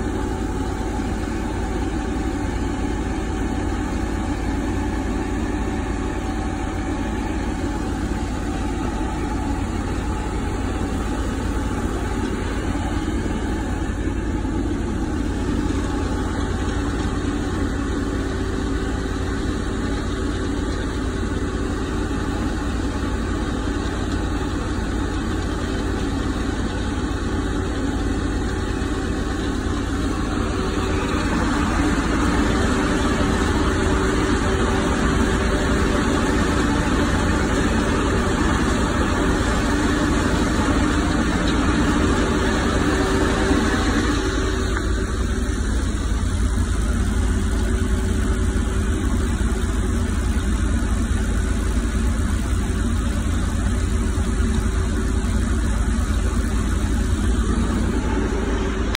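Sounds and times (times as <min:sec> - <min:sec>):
harvester machine droning: 0:00.0 - 0:58.9.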